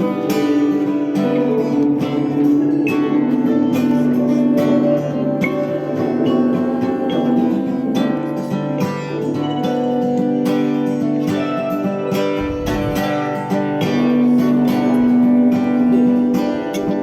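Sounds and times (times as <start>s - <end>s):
guitar strumming: 0.0s - 17.0s.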